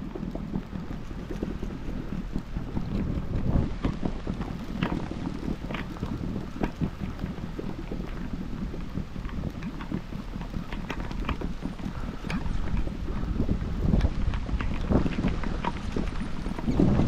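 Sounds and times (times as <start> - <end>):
light clicks and knocks: 0.0 - 17.0
wind buffeting microphone: 0.0 - 17.0.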